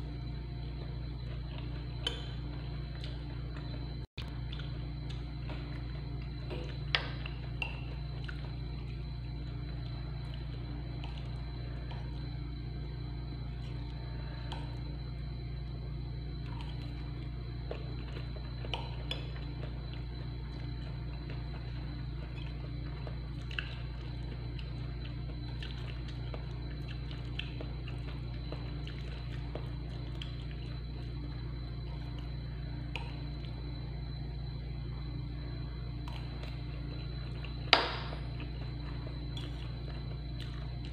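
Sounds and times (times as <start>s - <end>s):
eating and chewing sounds: 0.0s - 40.9s
steady low hum: 0.0s - 40.9s.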